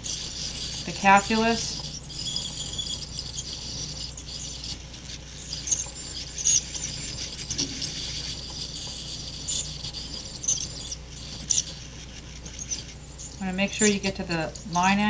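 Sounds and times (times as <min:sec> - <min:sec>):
ultrasonic scaler buzzing: 0:00.0 - 0:15.0.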